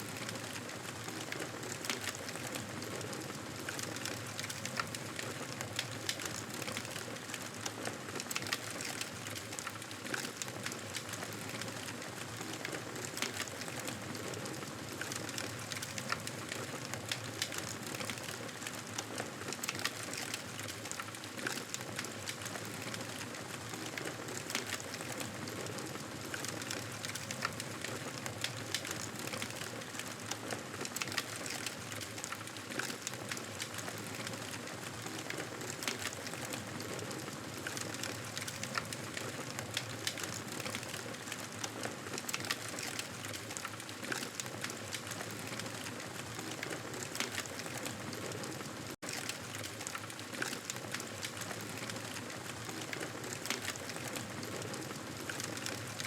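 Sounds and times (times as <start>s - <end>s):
burning wood crackling and popping: 0.0s - 56.0s.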